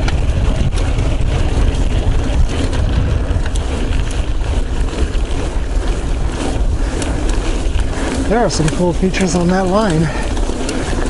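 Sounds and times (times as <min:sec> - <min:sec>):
bike clicks and rattles: 0:00.0 - 0:11.0
tyre rumble: 0:00.0 - 0:11.0
wind buffeting microphone: 0:00.0 - 0:11.0.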